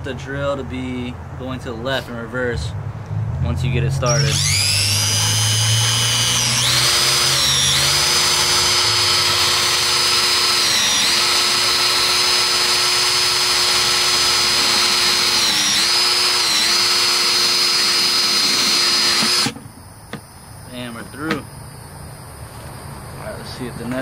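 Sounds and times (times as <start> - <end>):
cordless drill motor whine: 4.1 - 24.0.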